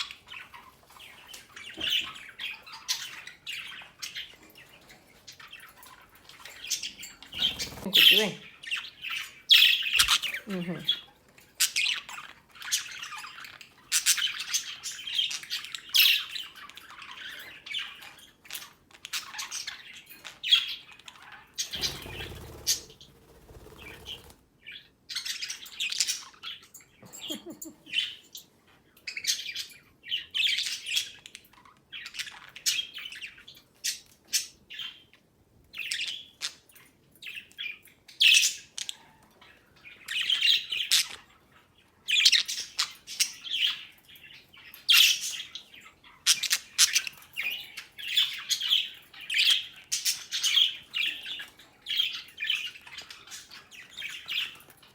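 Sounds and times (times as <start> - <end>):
budgies chirping and squawking: 0.0 - 26.6, 37.6 - 54.9.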